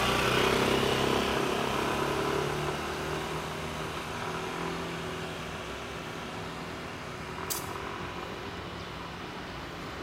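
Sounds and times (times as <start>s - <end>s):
scooter engines pulling away: 0.0s - 10.0s.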